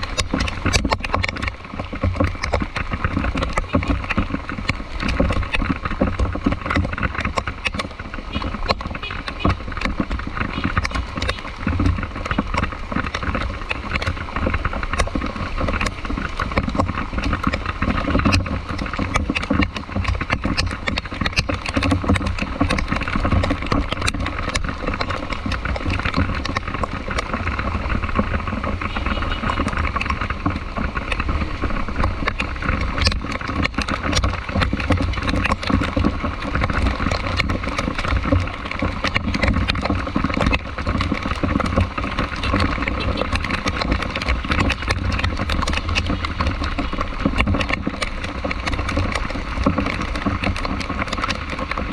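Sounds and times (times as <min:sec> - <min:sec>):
scattered ticks: 0:00.0 - 0:51.9
vehicle engine and road noise: 0:00.0 - 0:51.9.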